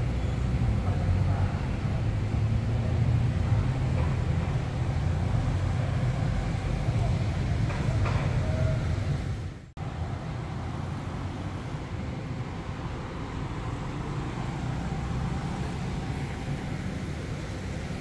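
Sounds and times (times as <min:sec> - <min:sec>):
cars passing rumble: 0:00.0 - 0:18.0.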